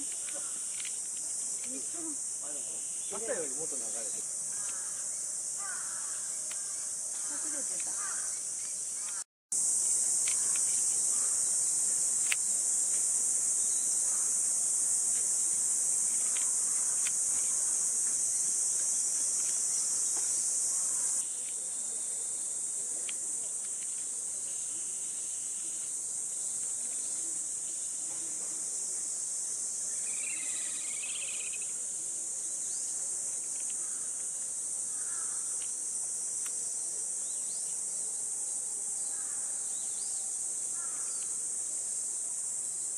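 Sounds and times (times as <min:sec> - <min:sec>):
cicadas chorus: 0:00.0 - 0:42.9.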